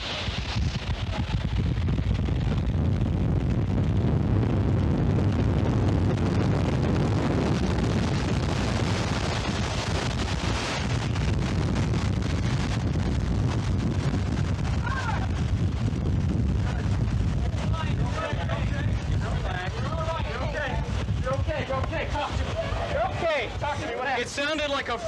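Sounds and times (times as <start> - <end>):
wind buffeting on microphone: 0.0 - 24.0
tornado winds rushing: 0.0 - 25.0.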